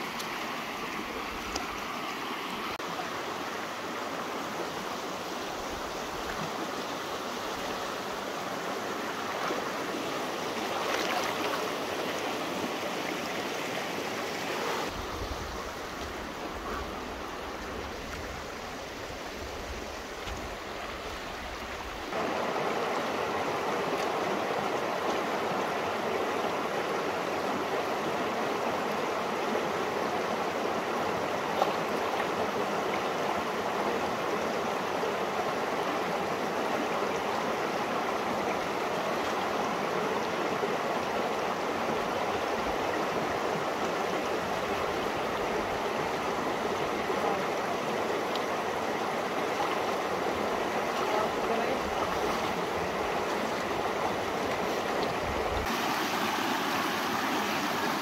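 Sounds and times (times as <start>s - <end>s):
river rushing over stones: 0.0s - 58.0s.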